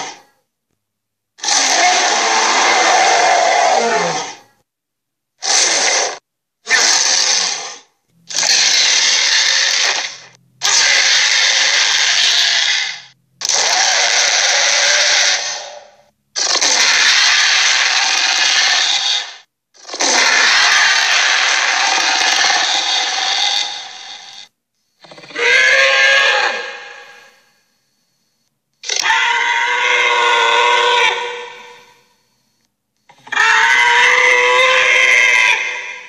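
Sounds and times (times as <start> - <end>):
rough creature roars: 1.4 - 4.5, 5.4 - 27.4, 28.8 - 32.0, 33.1 - 36.0.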